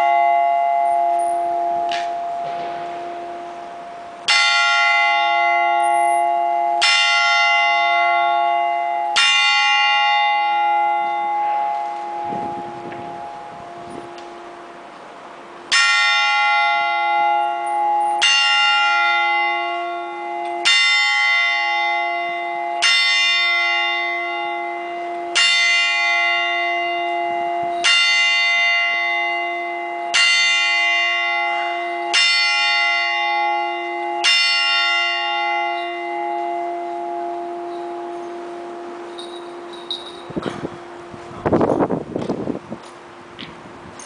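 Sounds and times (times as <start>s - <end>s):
church bell striking: 0.0s - 43.2s.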